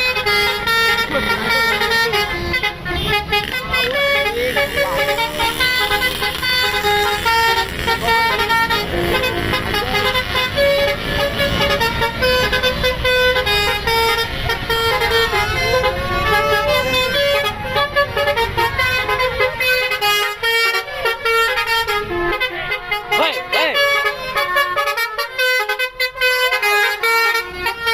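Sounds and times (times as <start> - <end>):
bus engine rumbling: 0.0 - 27.9
musical bus horn playing a tune: 0.0 - 27.9.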